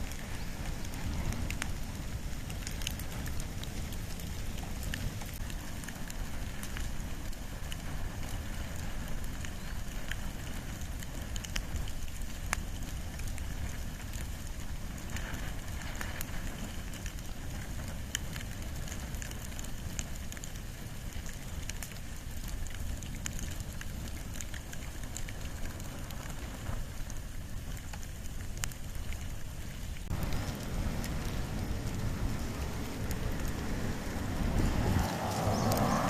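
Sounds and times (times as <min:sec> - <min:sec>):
fire burning: 0:00.0 - 0:36.0
fire crackling and popping: 0:00.0 - 0:36.0.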